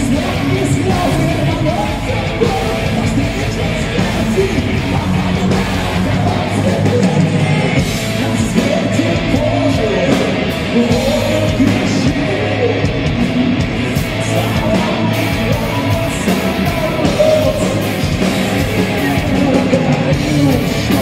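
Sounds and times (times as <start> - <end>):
male singer's wavering vocal: 0.0 - 13.0, 14.2 - 21.0
heavy metal band playing: 0.0 - 21.0.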